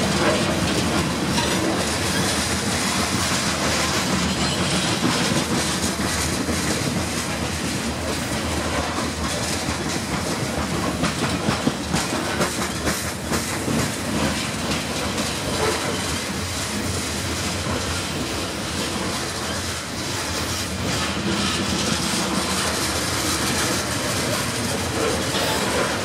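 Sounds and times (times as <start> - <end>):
steel wheels clacking over rail joints: 0.0 - 26.0
train rumble: 0.0 - 26.0.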